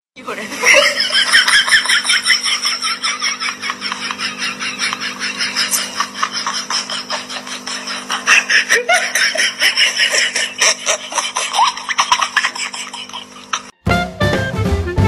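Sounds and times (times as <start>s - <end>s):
people laughing: 0.3s - 13.7s.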